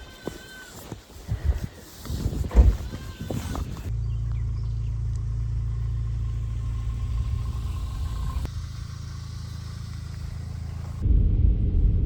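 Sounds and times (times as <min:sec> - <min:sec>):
car driving with road rumble: 0:02.4 - 0:12.0.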